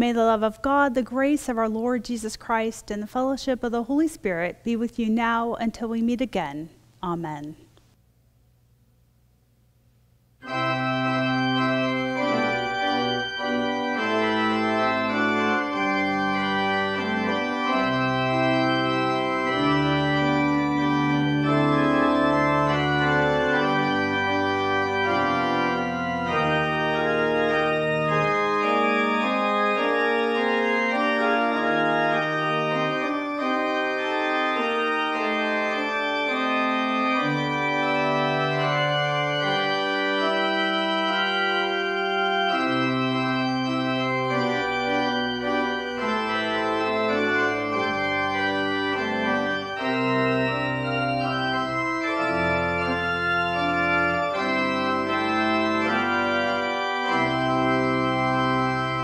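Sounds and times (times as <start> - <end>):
church organ chords: 10.4 - 59.0.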